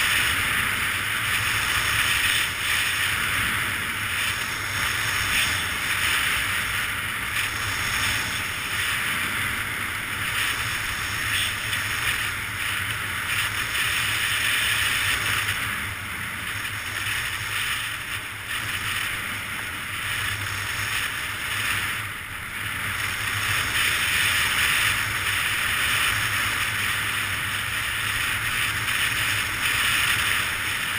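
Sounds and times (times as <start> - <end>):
skis sliding over snow: 0.0 - 30.9.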